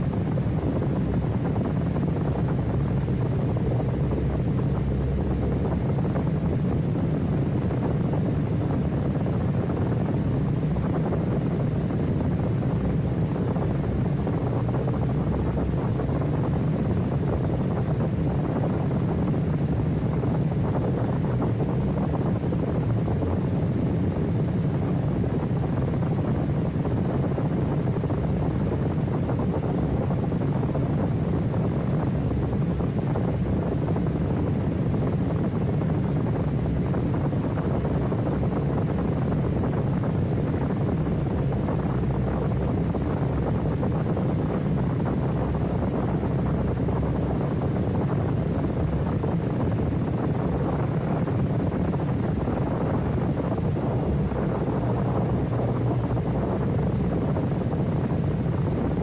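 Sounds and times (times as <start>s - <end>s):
propeller engine running: 0.0s - 59.0s
wind buffeting microphone: 0.0s - 59.0s.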